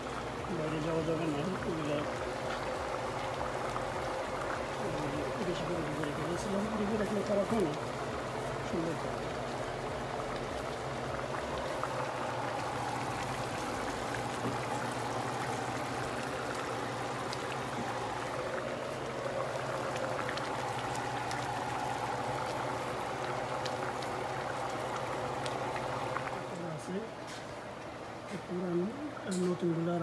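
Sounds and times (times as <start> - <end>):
low steady hum: 0.0 - 30.0
pot simmering with bubbling: 0.0 - 30.0.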